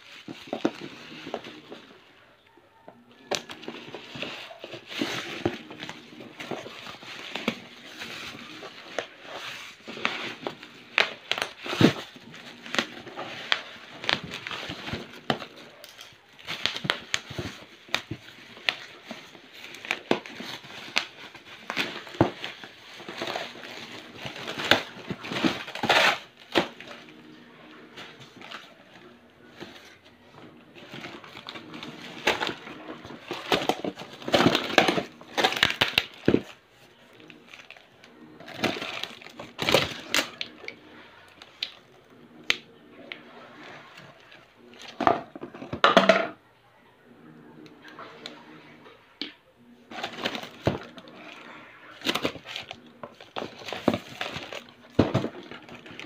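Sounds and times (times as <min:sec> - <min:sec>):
plastic wrap crinkling: 0:00.0 - 0:02.0, 0:02.7 - 0:45.4, 0:49.9 - 0:56.0.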